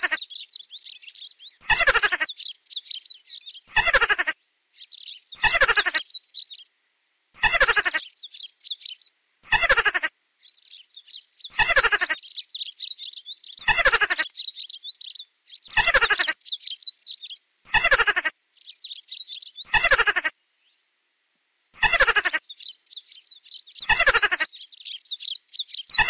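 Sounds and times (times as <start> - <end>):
high chirping birdsong: 0.0 - 6.8, 7.4 - 20.9, 21.7 - 26.0.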